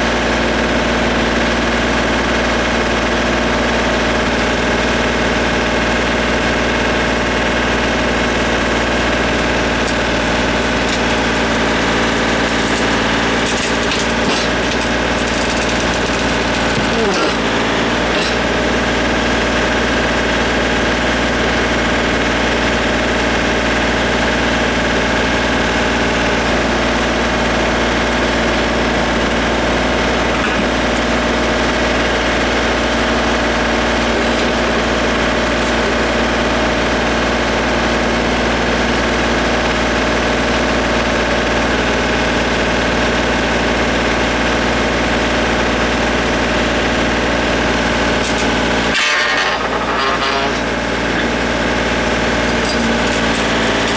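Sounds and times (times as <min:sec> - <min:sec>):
diesel engine running steadily: 0:00.0 - 0:53.9.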